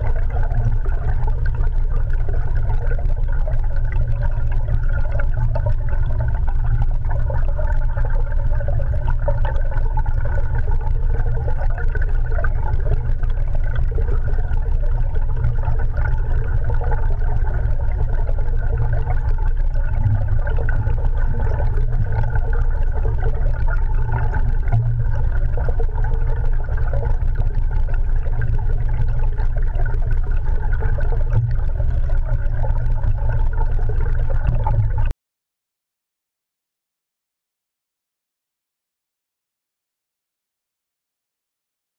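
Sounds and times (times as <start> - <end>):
underwater rumble: 0.0 - 35.1.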